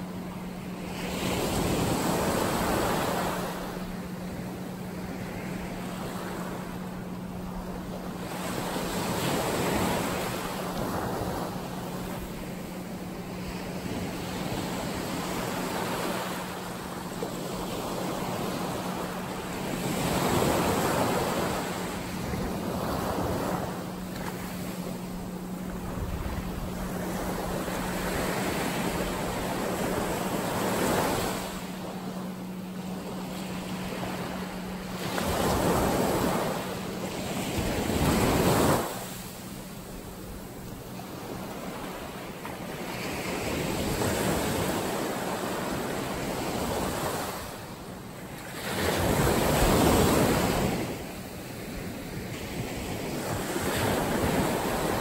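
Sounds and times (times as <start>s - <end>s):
steady low hum: 0.0s - 55.0s
ocean surf washing in: 0.7s - 55.0s.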